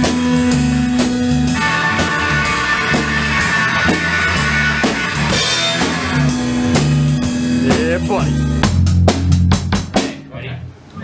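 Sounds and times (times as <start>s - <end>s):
electric guitar chords: 0.0s - 10.0s
bass: 0.0s - 11.0s
drum kit: 0.0s - 11.0s.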